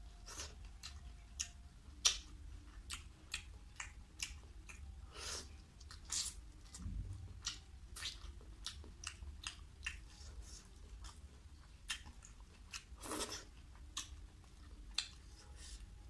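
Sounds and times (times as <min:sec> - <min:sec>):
wet chewing and lip-smacking: 0:00.2 - 0:15.8.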